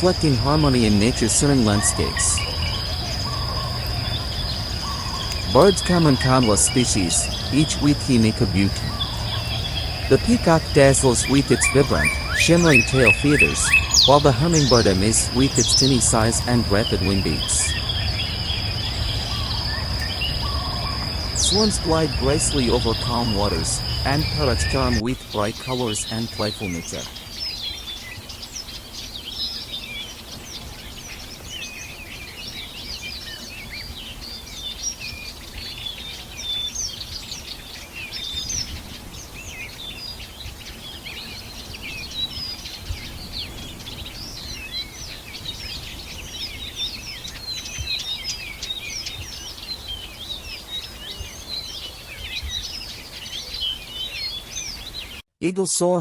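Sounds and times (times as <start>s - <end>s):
many small birds chirping: 0.0s - 55.2s
faint low background hiss: 0.0s - 56.0s.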